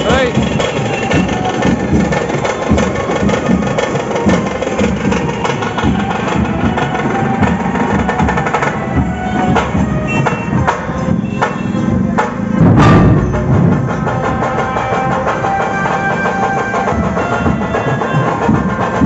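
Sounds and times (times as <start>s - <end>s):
barrel drums beating: 0.0s - 19.0s.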